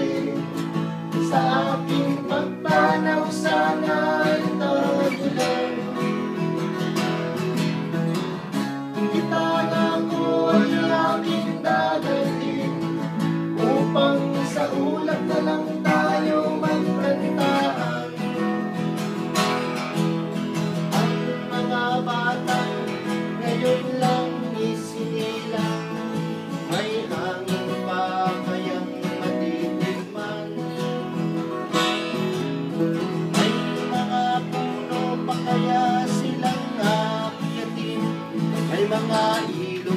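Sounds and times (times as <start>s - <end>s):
strummed acoustic guitar folk song: 0.0s - 39.9s.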